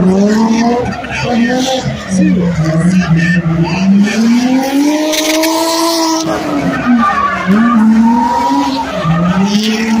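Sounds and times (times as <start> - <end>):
car engine revving hard: 0.0 - 10.0
tyres sliding on asphalt: 0.0 - 10.0.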